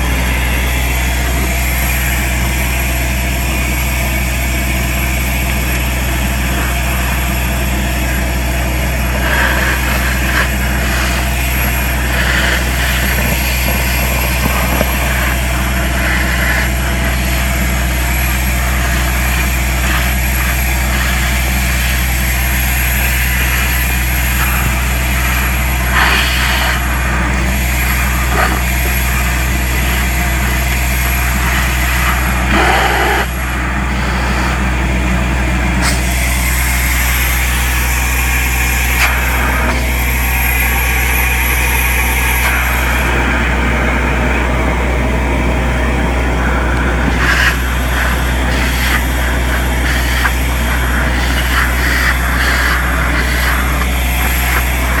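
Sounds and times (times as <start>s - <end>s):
soil clumps sucked up pipe: 0.0s - 34.9s, 45.4s - 55.0s
vacuum excavator humming: 0.0s - 55.0s
air rushing into suction pipe: 5.7s - 44.0s, 45.6s - 55.0s.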